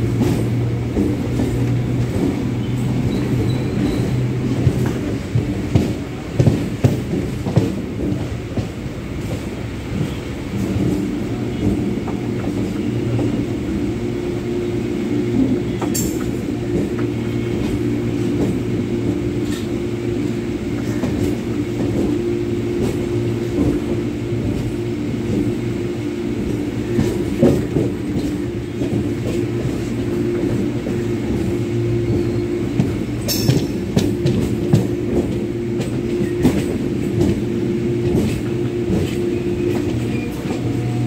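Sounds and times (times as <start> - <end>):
constant train hum: 0.0 - 41.0
train wheels rumbling on rails: 0.0 - 41.0.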